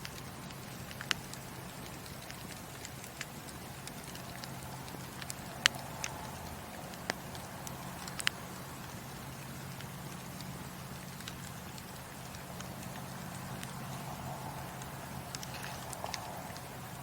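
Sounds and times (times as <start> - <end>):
low rush of fire: 0.0 - 17.0
wood fire crackling and popping: 0.0 - 17.0.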